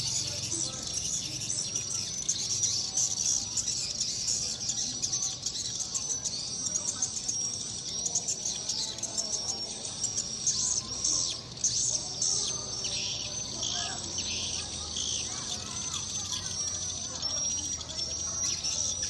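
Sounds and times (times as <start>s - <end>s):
swiftlets chirping: 0.0s - 19.0s.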